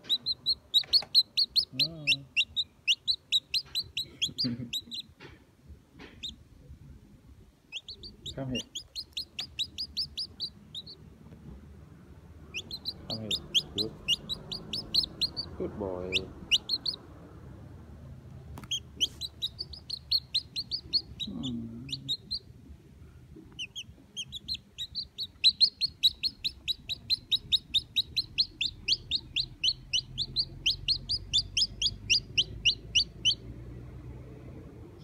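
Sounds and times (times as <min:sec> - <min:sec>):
chick peeping: 0:00.0 - 0:05.3, 0:06.0 - 0:06.5, 0:07.7 - 0:11.2, 0:12.4 - 0:17.2, 0:18.5 - 0:33.7.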